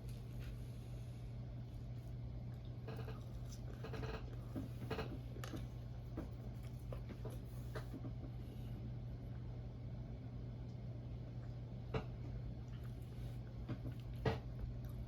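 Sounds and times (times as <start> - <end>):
close chewing and mouth sounds: 0.0 - 8.3, 10.6 - 15.0
steady low hum: 0.0 - 15.0.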